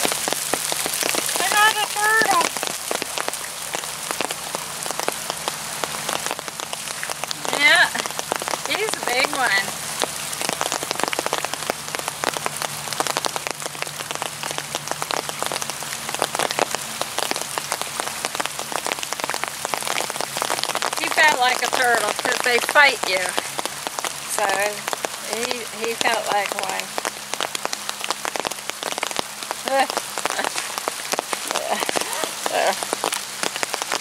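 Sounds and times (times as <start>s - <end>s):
raindrops ticking on a surface: 0.0s - 34.0s.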